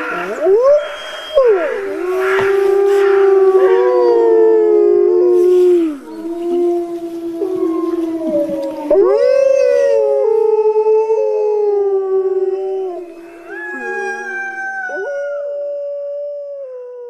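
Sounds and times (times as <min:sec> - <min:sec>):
wolves howling: 0:00.0 - 0:17.0.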